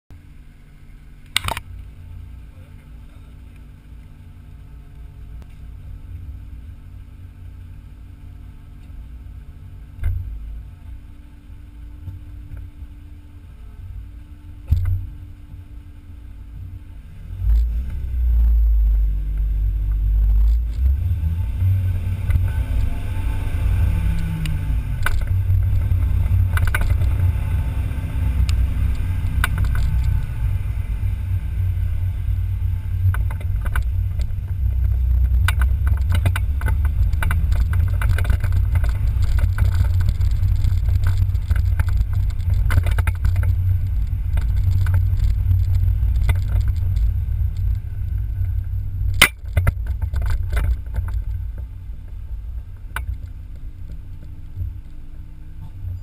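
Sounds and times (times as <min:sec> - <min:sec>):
car engine idling: 0:00.1 - 0:56.0
car engine rumble driving off: 0:00.1 - 0:56.0
wind and road noise: 0:00.1 - 0:56.0.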